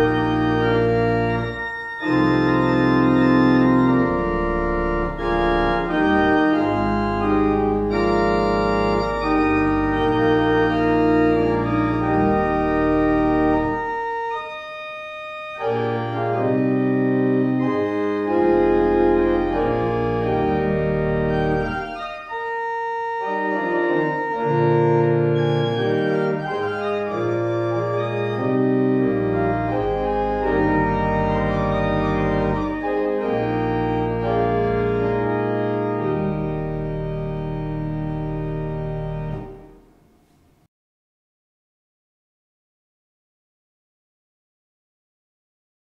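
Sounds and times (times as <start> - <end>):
organ playing held chords: 0.0 - 40.1.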